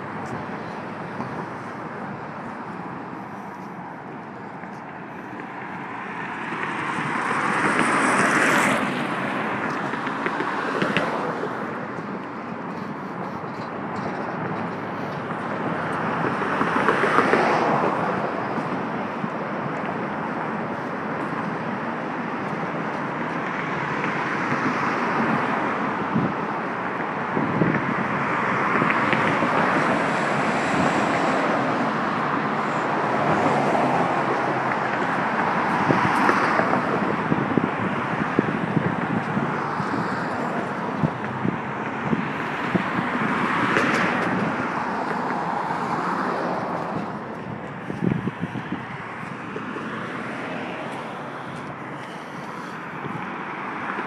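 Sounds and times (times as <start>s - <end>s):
cars passing: 0.0s - 54.0s
wind on microphone: 0.0s - 54.0s.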